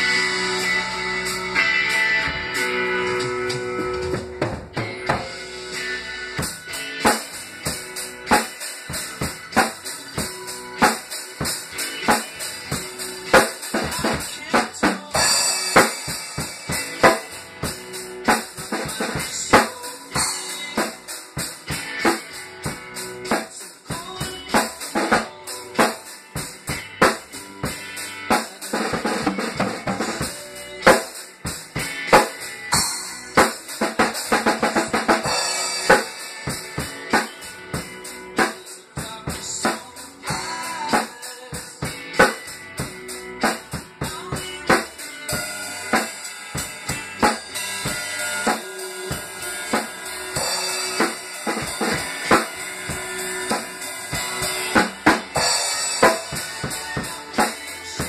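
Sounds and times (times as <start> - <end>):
guitar: 0.0 - 58.0
rock drum beat: 0.0 - 58.0.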